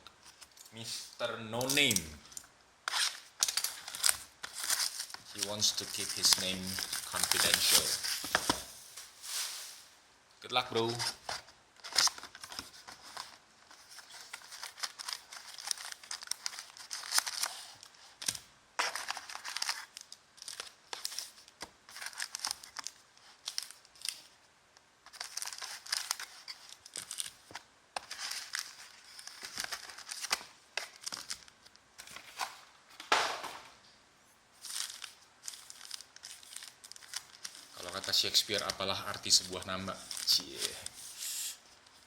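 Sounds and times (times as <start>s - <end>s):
plastic wrapping crinkling and tearing: 1.6s - 9.9s, 10.8s - 24.4s, 25.0s - 32.7s, 34.6s - 41.1s.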